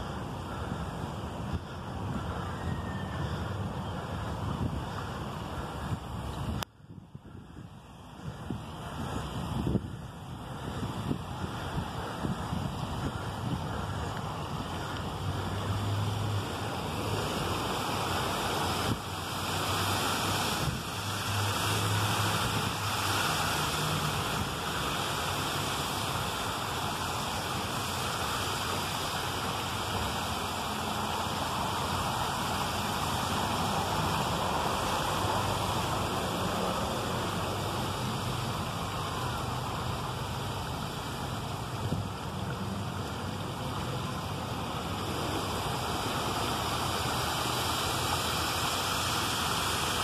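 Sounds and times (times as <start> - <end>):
fountain water splashing: 0.0 - 50.0.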